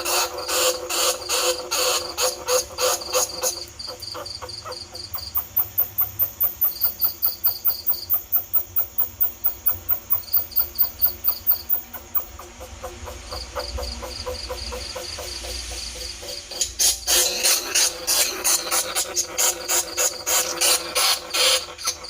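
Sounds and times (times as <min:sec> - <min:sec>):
rat squeals: 0:00.0 - 0:15.3, 0:16.5 - 0:22.0.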